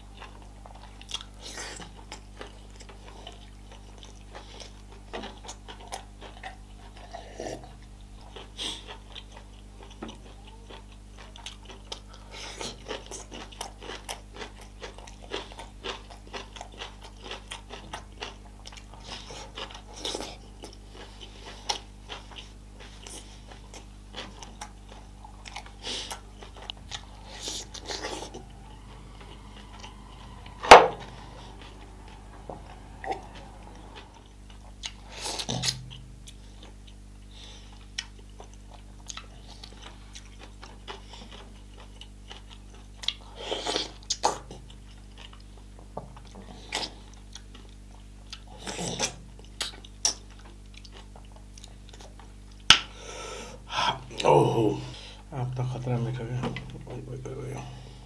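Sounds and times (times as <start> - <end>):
person chewing with wet smacks: 0.0 - 53.0
steady low hum: 0.0 - 58.0.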